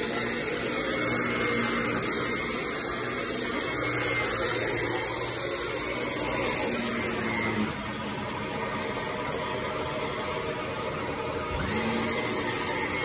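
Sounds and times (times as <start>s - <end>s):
vacuum cleaner running over carpet: 0.0s - 13.0s.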